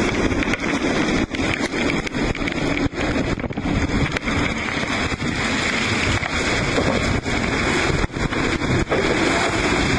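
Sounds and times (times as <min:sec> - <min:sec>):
rushing seawater and spray: 0:00.0 - 0:09.9
wind buffeting microphone: 0:00.0 - 0:09.9.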